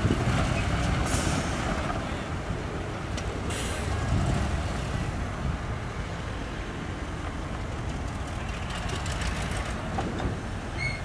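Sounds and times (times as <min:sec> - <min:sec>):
heavy diesel machinery rumble: 0:00.0 - 0:11.0.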